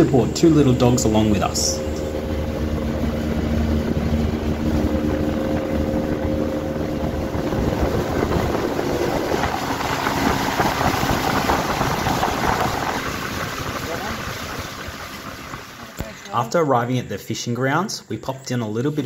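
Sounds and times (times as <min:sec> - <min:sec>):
wind on microphone: 0:00.0 - 0:16.1
boat motor running: 0:00.0 - 0:16.5
water rushing past hull: 0:00.0 - 0:16.6.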